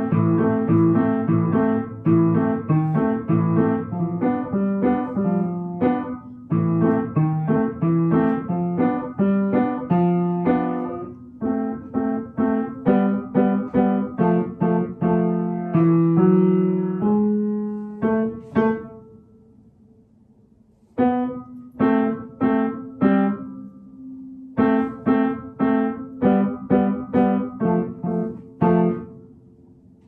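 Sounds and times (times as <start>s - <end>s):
child playing upright piano: 0.0s - 19.2s, 21.0s - 30.0s.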